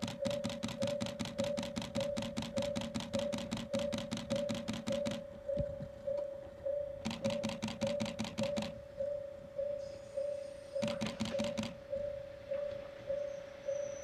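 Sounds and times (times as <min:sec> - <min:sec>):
pulsing ringing tone: 0:00.0 - 0:14.0.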